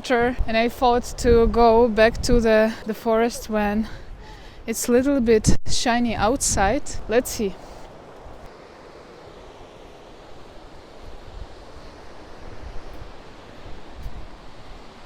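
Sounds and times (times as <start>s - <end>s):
wind on the microphone: 0.0s - 8.5s, 10.1s - 15.0s
waves on the shore: 0.0s - 15.0s.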